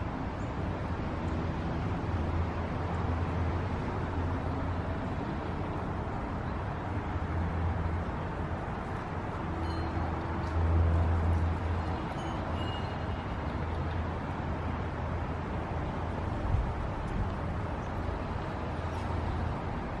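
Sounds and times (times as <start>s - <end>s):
distant road traffic: 0.0s - 20.0s.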